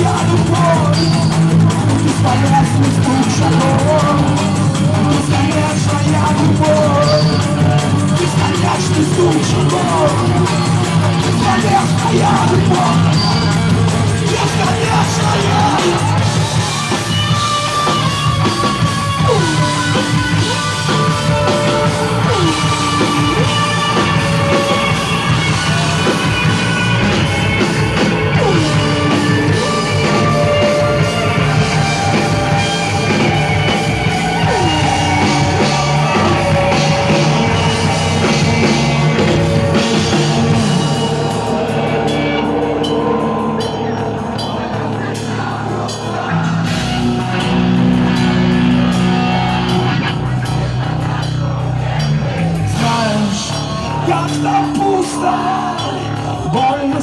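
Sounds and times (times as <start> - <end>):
drum kit: 0.0 - 57.0
heavy rock band playing live: 0.0 - 57.0.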